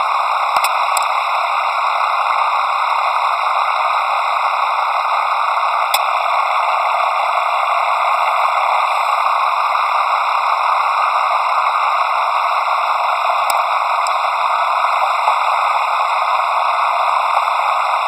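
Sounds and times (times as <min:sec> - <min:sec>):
loud steady hiss: 0:00.0 - 0:18.0.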